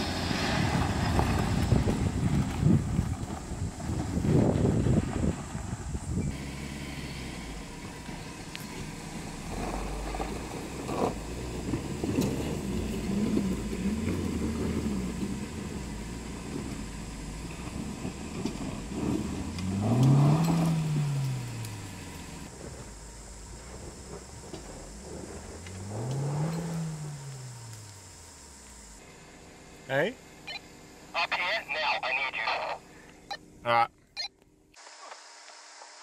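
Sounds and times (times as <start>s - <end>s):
car engine revving: 0.0s - 30.4s.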